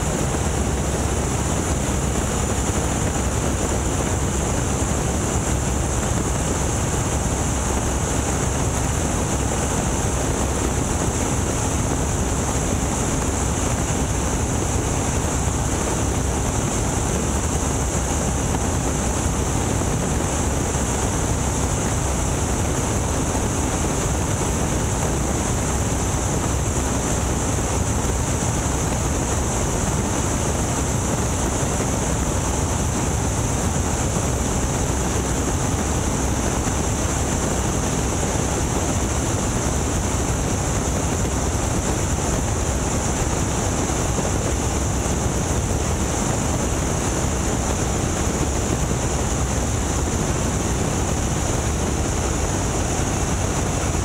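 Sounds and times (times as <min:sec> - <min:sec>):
biplane radial engine: 0:00.0 - 0:54.0.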